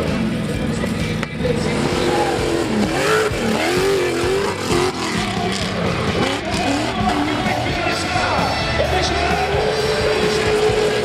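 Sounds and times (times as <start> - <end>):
jeep engine revving: 0.0 - 11.0.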